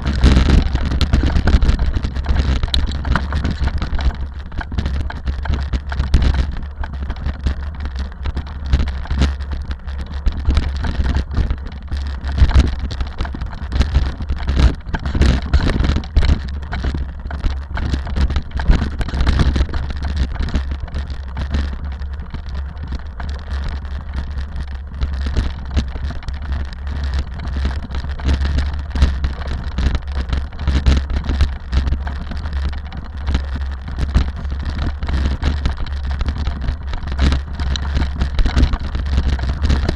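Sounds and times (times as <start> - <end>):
car engine drone: 0.0 - 39.9
road and tyre noise: 0.0 - 39.9.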